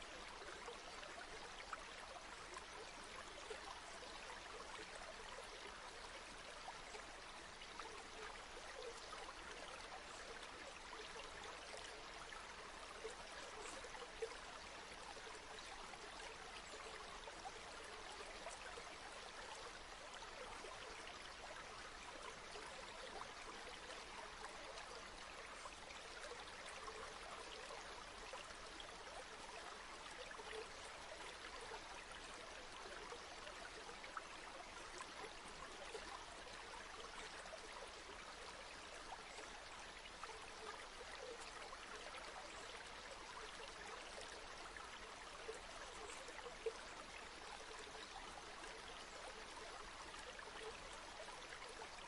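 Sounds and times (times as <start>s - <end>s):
river flowing: 0.0s - 52.0s.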